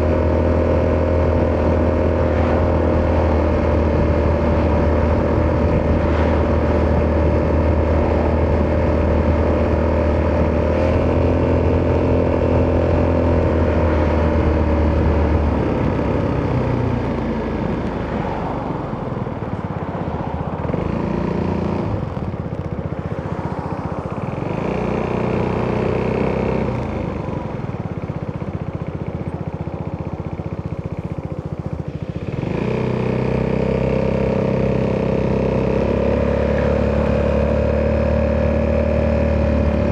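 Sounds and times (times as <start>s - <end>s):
motorcycle engine riding along: 0.0s - 39.9s.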